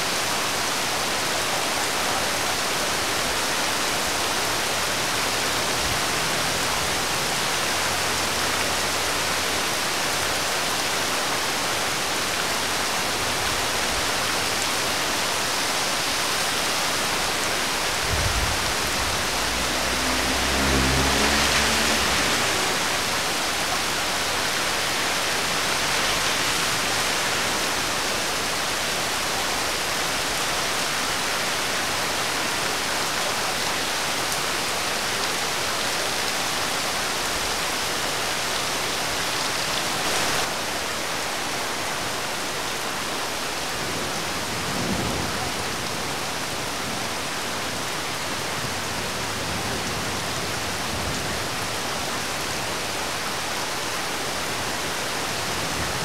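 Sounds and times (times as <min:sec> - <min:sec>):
rain falling on wet road: 0:00.0 - 0:56.0.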